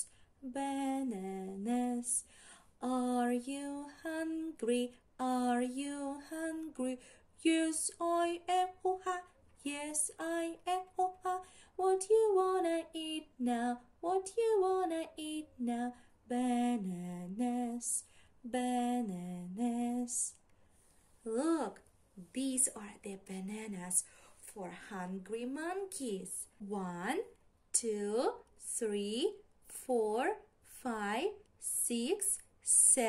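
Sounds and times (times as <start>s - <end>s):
woman singing unaccompanied: 0.0s - 20.4s, 21.3s - 33.0s.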